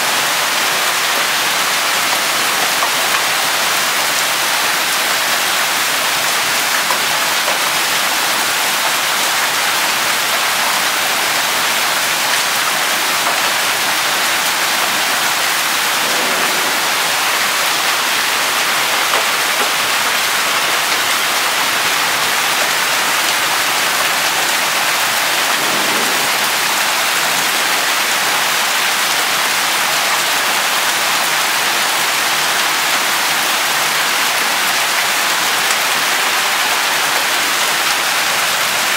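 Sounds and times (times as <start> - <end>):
hail and rain pelting: 0.0 - 38.9.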